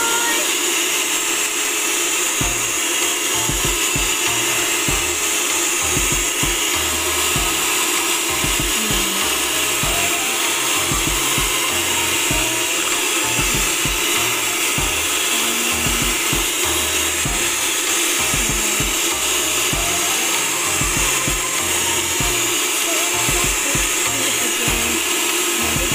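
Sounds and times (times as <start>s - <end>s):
electric hand mixer whisking: 0.0s - 25.9s
background music: 2.4s - 25.9s.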